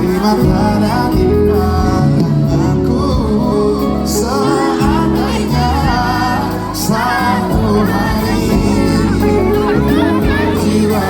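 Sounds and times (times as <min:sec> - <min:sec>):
live band playing pop ballad: 0:00.0 - 0:11.0
person singing with vibrato: 0:00.0 - 0:11.0.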